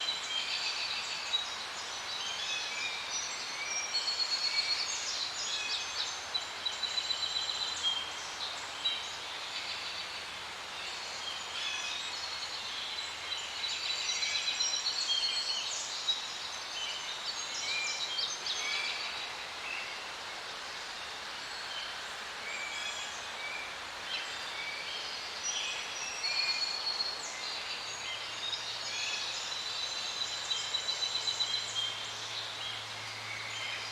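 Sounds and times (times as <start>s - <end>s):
forest birds chirping: 0.0s - 33.9s
soft breeze hiss: 0.0s - 33.9s.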